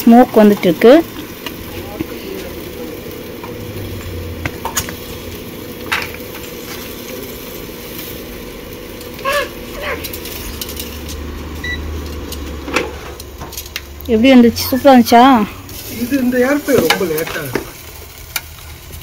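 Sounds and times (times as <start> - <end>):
steady hum: 0.0 - 16.6
chicken sizzling on a grill: 0.0 - 19.0.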